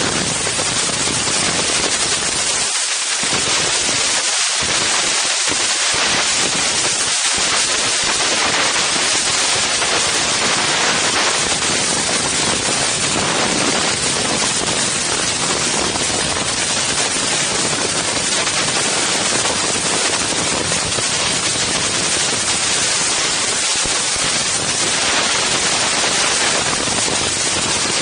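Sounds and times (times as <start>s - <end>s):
strong wind on microphone: 0.0s - 28.0s.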